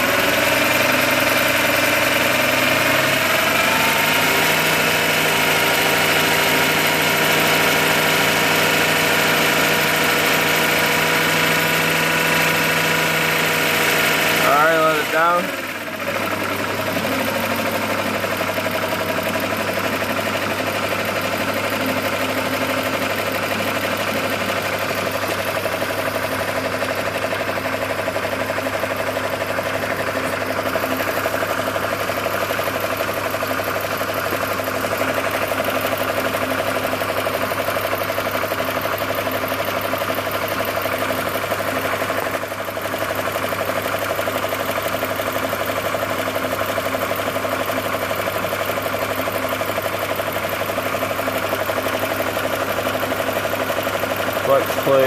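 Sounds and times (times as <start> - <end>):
car engine idling: 0.1 - 55.0.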